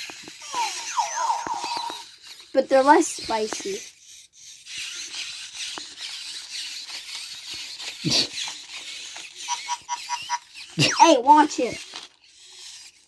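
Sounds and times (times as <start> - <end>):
toy motors whirring: 0.0 - 13.0.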